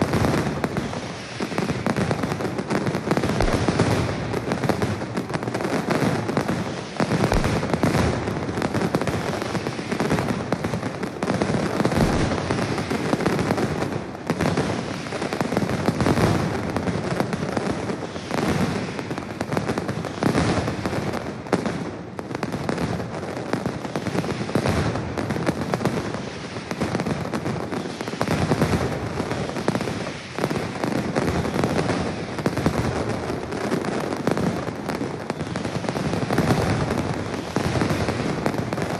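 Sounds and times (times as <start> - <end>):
firecrackers bursting rapidly: 0.0 - 38.9.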